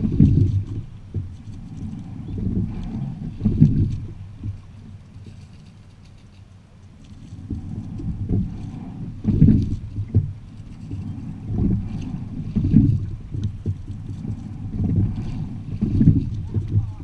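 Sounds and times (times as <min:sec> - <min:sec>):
wind on microphone: 0:00.0 - 0:06.0, 0:06.9 - 0:17.0
water along hull: 0:00.0 - 0:17.0
faint ticks: 0:00.3 - 0:17.0.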